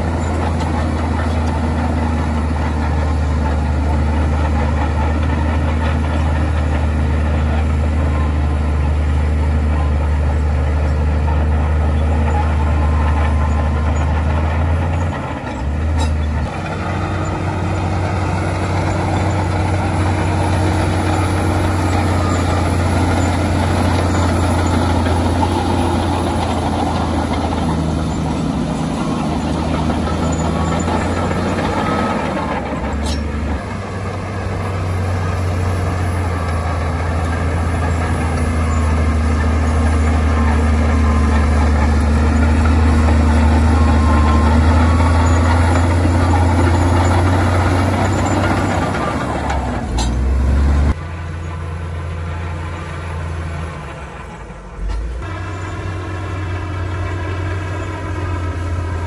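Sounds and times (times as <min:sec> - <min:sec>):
bulldozer diesel engine under load: 0:00.0 - 0:59.0.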